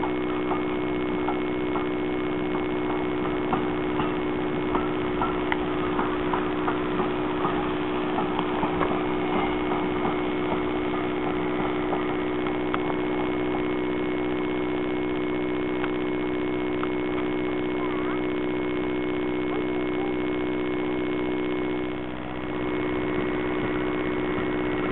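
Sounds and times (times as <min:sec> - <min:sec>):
steady droning hum: 0:00.0 - 0:24.9
steam engine exhaust beats: 0:00.0 - 0:24.9.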